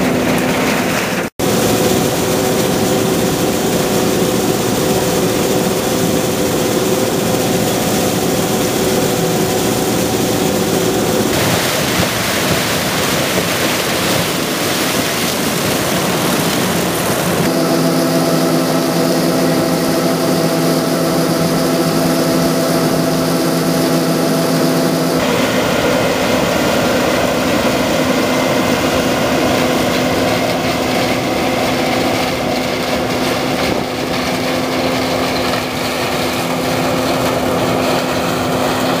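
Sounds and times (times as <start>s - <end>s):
combine diesel engine running: 0.0s - 39.0s
grain pouring from auger: 0.0s - 39.0s.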